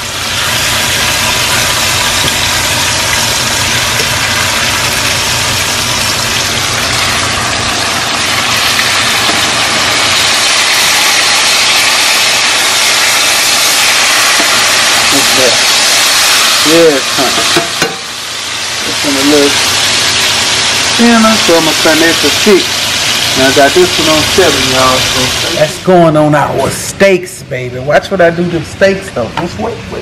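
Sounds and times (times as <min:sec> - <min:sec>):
steaks sizzling in oil: 0:00.0 - 0:25.8.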